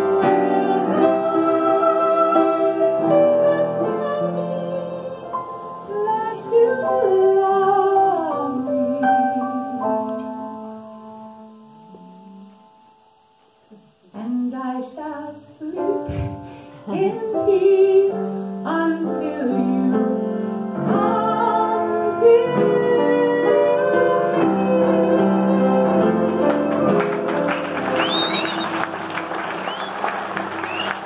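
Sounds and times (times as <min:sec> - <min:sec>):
woman singing: 0:00.0 - 0:10.8, 0:11.6 - 0:12.8, 0:13.7 - 0:27.3
piano: 0:00.0 - 0:31.0.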